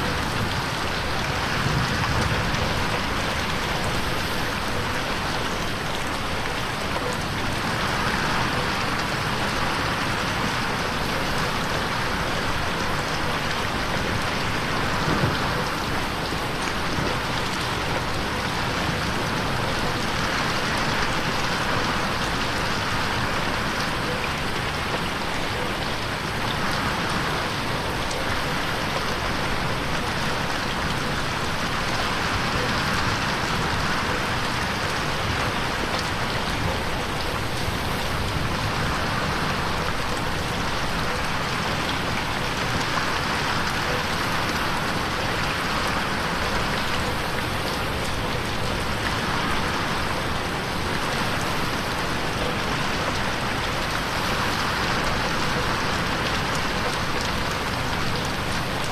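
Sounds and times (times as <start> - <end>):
rain pattering on window: 0.0 - 58.9.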